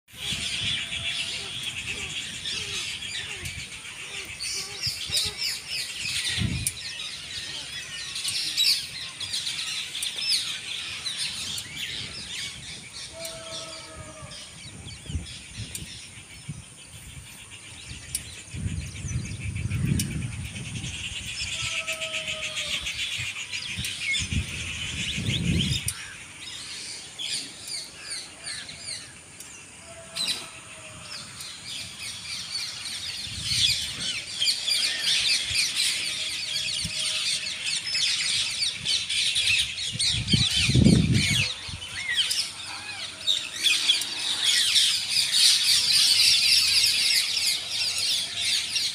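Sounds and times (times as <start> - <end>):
small birds chirping: 0.1 - 48.9.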